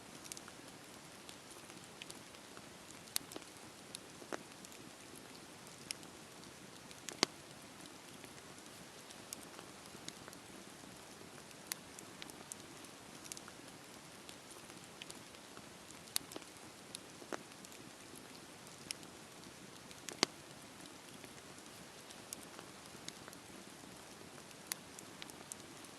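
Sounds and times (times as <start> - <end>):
campfire hissing: 0.1 - 25.9
wood crackling and popping: 0.1 - 25.9.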